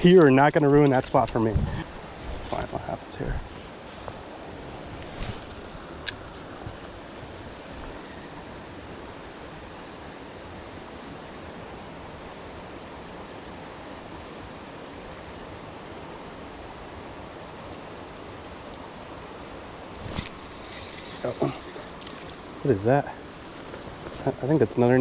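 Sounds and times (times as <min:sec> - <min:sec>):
rushing stream water: 0:00.0 - 0:25.0.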